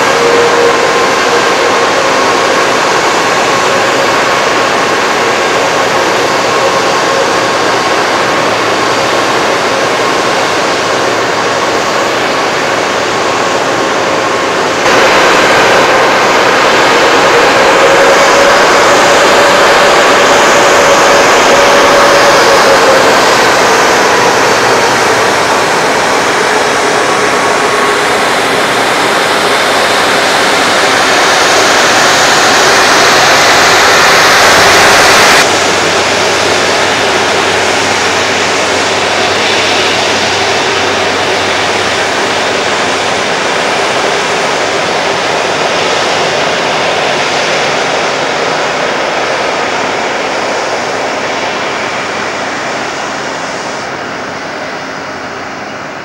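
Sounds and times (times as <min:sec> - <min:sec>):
jet engines at taxi power: 0:00.0 - 0:56.0.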